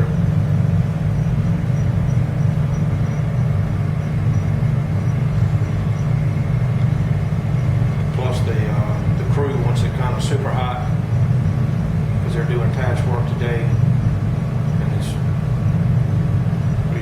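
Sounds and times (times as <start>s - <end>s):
low machinery drone: 0.0s - 17.0s.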